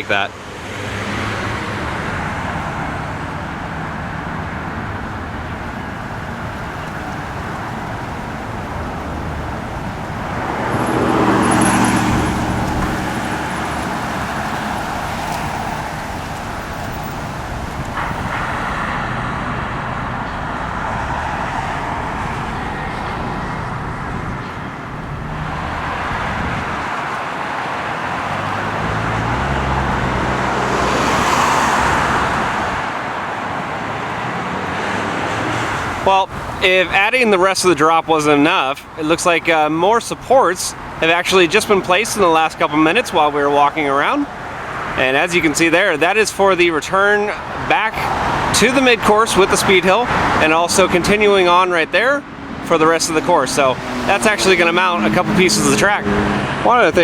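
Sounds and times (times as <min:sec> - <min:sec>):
road traffic noise: 0:00.0 - 0:57.0
vehicle passing: 0:00.6 - 0:57.0.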